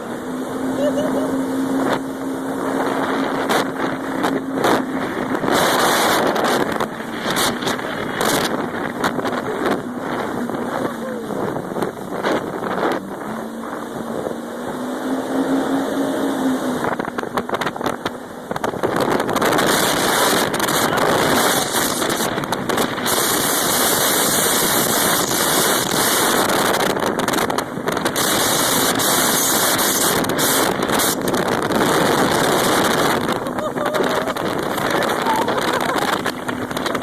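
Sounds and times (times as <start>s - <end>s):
jet ski engine running: 0.0s - 37.0s
rushing water: 0.0s - 37.0s
wind buffeting on microphone: 0.0s - 37.0s.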